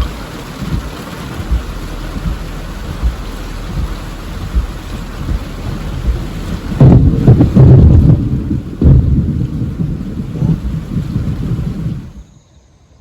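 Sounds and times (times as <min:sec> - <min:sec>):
thunder rumbling: 0:00.0 - 0:12.3
steady rain: 0:00.0 - 0:12.4.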